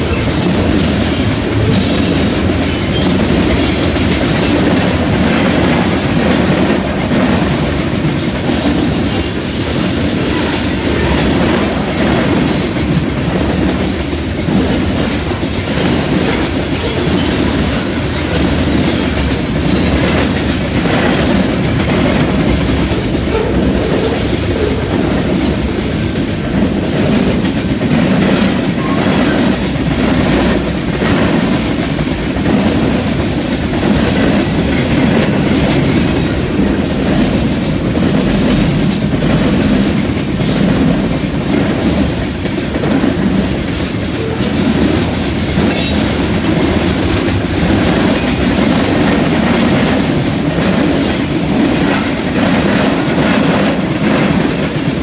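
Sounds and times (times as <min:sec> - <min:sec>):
train wheels rumbling on rails: 0:00.0 - 0:55.0
wheels clicking over rail joints: 0:00.0 - 0:55.0.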